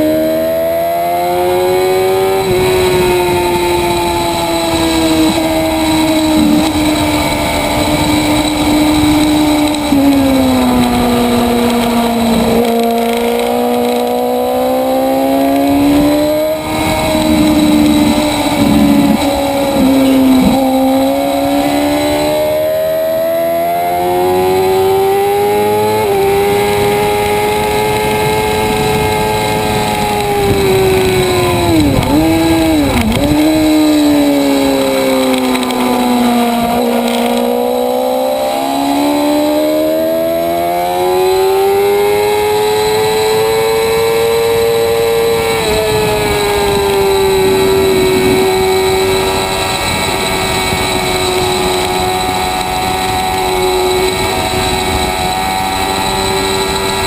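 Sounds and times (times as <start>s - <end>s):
car engine accelerating and downshifting: 0.0s - 57.0s.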